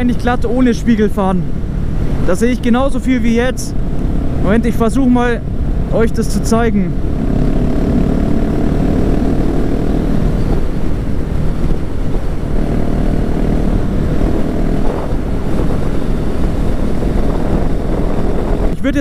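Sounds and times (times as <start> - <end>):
wind rushing over microphone: 0.0 - 19.0
motorcycle engine running: 1.4 - 19.0.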